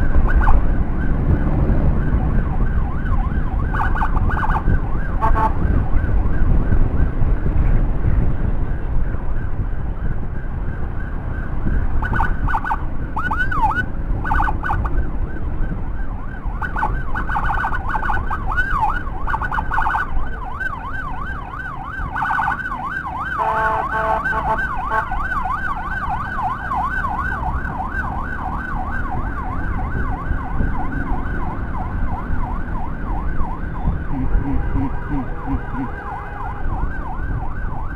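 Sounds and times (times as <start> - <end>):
emergency siren yelping: 0.0 - 6.8, 9.1 - 37.9
motorcycle road and wind rumble: 0.0 - 37.9.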